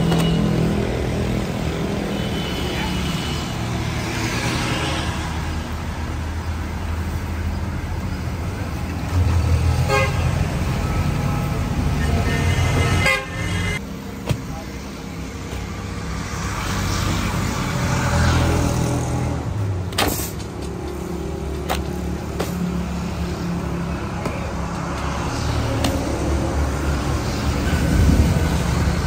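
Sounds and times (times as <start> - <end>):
vehicle engines running: 0.0 - 13.0, 13.8 - 29.0.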